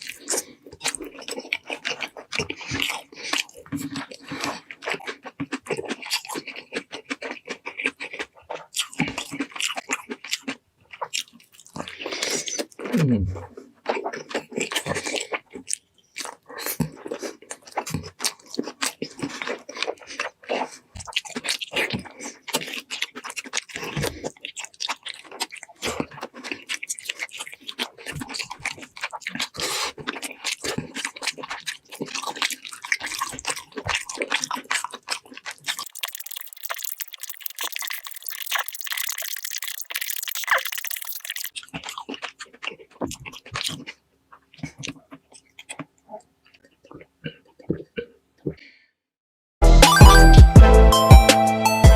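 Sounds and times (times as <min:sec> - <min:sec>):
crunching while eating: 0:00.0 - 0:48.6
wet chewing and smacking: 0:00.0 - 0:48.6.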